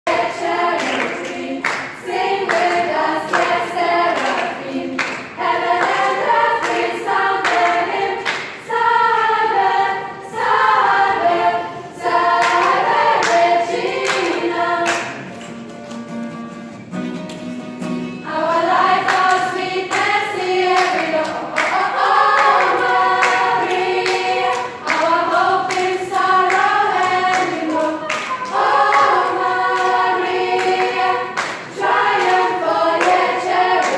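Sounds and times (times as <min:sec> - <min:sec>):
youth choir singing: 0:00.0 - 0:15.3, 0:18.2 - 0:33.9.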